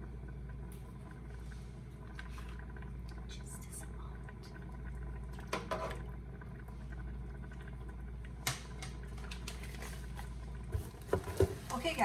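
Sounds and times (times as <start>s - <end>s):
pot simmering and bubbling: 0.0s - 12.0s
steady low hum: 0.0s - 12.0s.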